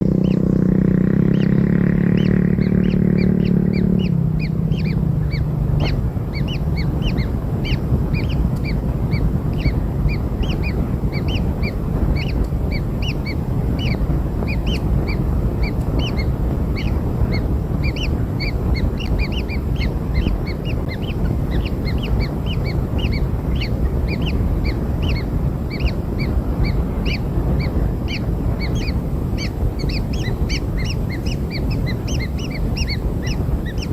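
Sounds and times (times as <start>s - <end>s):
low droning tone: 0.0s - 33.9s
low rumble: 0.0s - 33.9s
chicks peeping: 1.4s - 33.9s.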